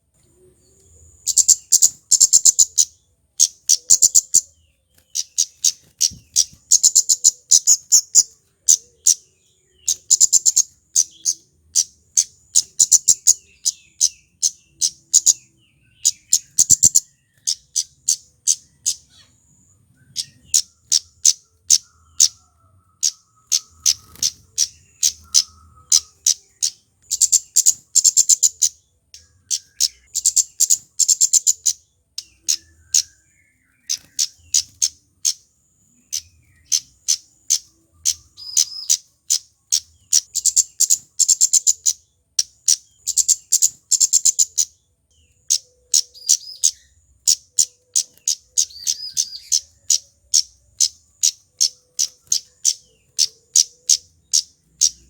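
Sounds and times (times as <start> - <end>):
bird chipping calls: 0.7 - 55.0.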